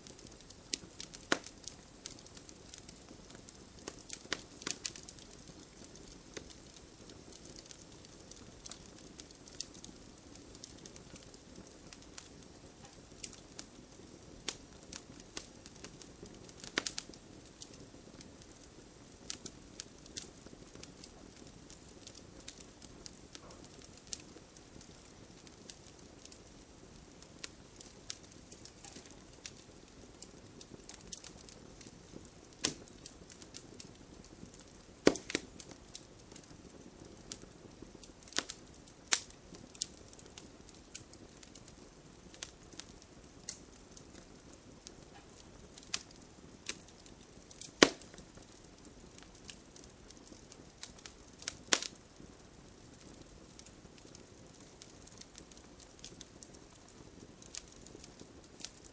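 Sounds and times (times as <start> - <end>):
low steady hiss: 0.0 - 58.9
wood fire crackling and popping: 0.0 - 58.9.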